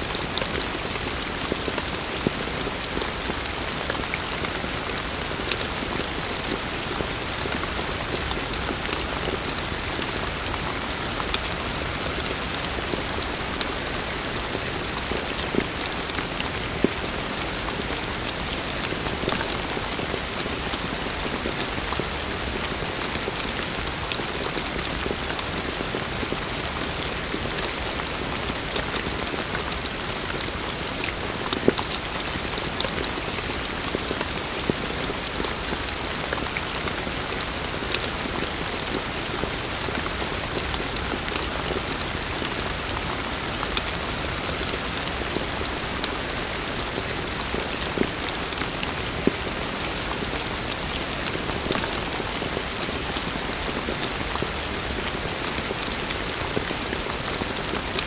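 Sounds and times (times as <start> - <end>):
raindrops ticking on surfaces: 0.0 - 58.0.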